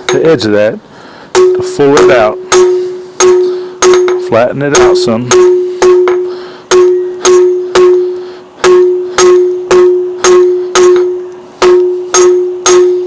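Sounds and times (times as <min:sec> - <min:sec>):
anvil ringing: 0:00.0 - 0:00.6, 0:01.3 - 0:13.0
hammer striking steel on anvil: 0:00.0 - 0:00.6, 0:01.3 - 0:13.0.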